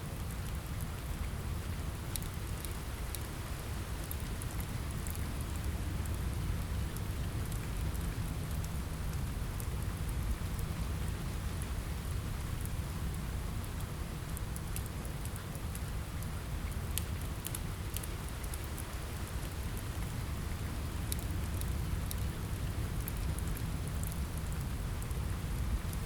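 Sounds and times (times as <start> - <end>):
rain on a window: 0.0 - 26.0
wood fire crackling: 2.0 - 26.0.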